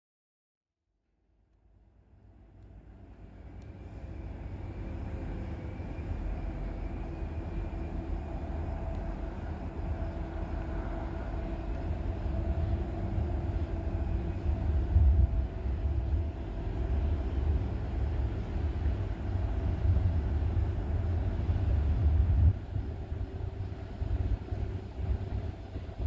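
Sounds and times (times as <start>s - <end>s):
diesel locomotive rumbling: 2.1s - 26.0s.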